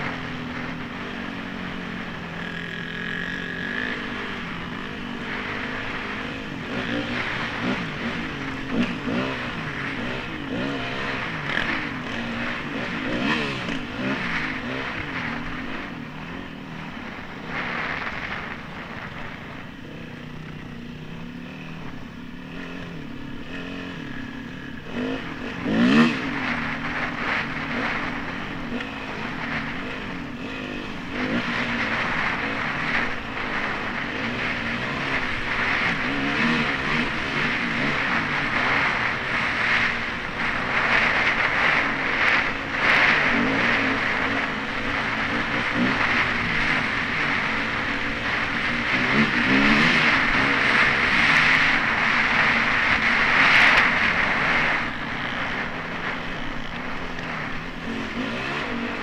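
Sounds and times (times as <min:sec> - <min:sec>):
dirt bike engine revving: 0:00.0 - 0:59.0
wind noise on microphone: 0:03.9 - 0:59.0.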